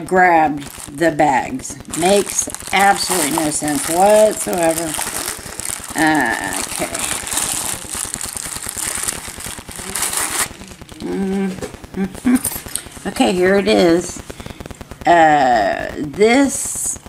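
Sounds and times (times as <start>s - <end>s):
packaging crinkling and rustling: 0.4s - 15.0s.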